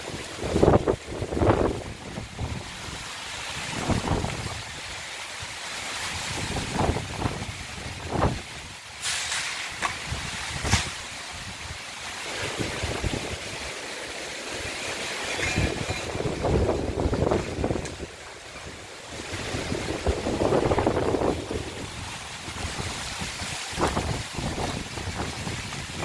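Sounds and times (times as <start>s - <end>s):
gusty wind buffeting microphone: 0.0s - 5.0s, 6.1s - 8.8s, 9.7s - 13.8s, 14.5s - 26.0s.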